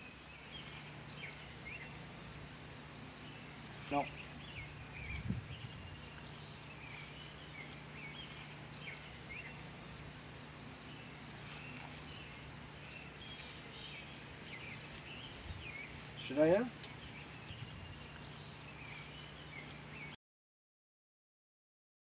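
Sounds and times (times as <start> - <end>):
birds chirping: 0.0 - 20.2
low hum: 0.0 - 20.2.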